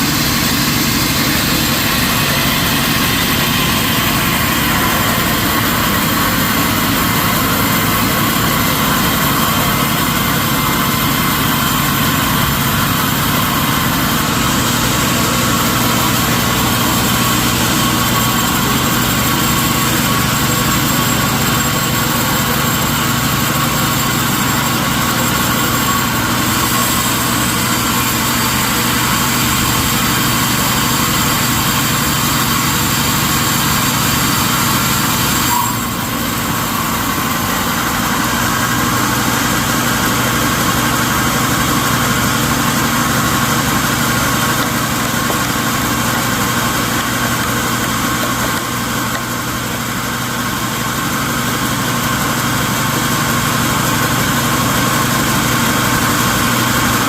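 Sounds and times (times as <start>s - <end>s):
sawmill machinery droning: 0.0s - 57.0s.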